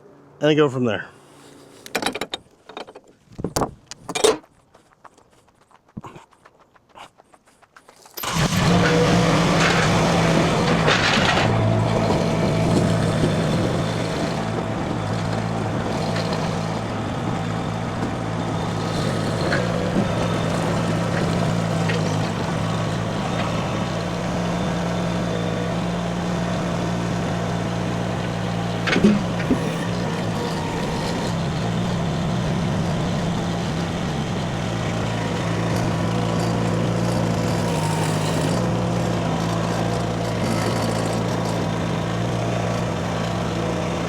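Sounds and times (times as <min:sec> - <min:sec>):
skid steer engine running: 0:08.2 - 0:44.0.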